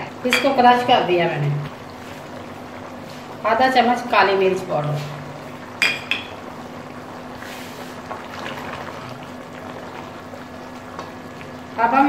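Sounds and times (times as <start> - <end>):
broth bubbling in a pot: 0.0 - 12.0.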